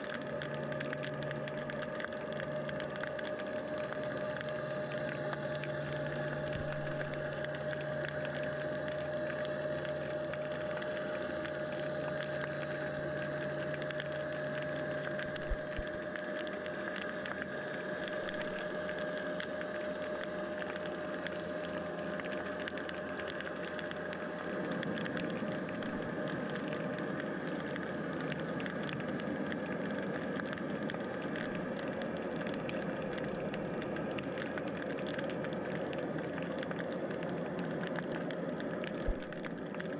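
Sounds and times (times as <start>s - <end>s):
crackle of clicks: 0.0s - 39.9s
lower hum: 0.0s - 39.9s
underwater mechanical drone: 0.0s - 39.9s.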